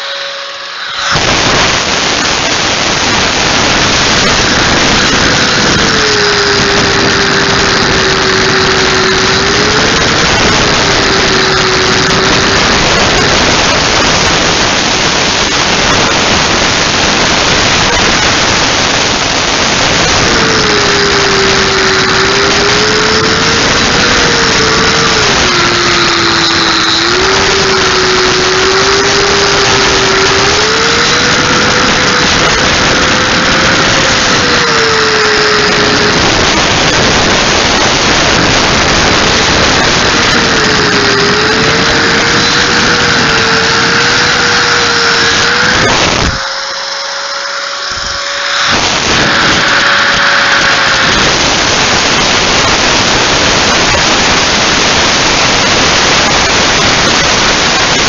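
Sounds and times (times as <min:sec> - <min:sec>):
handheld grinder grinding: 0:00.0 - 0:58.0.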